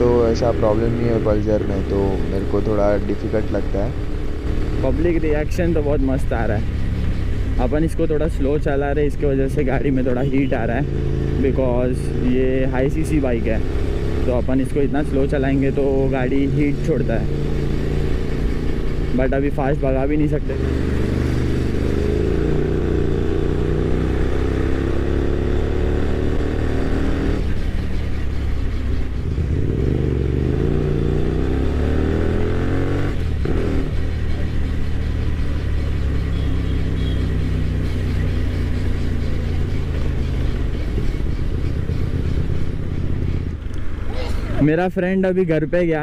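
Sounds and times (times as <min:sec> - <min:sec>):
motorcycle engine accelerating: 0:00.0 - 0:44.2.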